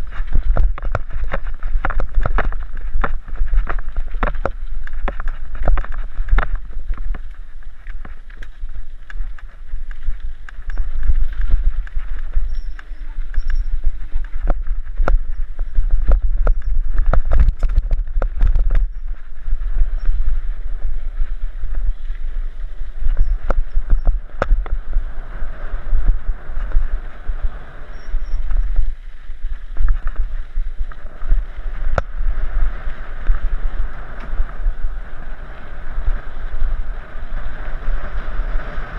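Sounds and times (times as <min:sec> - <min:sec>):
bike rattling over bumps: 0:00.0 - 0:38.9
bike tyres rolling over gravel: 0:00.0 - 0:38.9
wind buffeting microphone: 0:00.0 - 0:38.9.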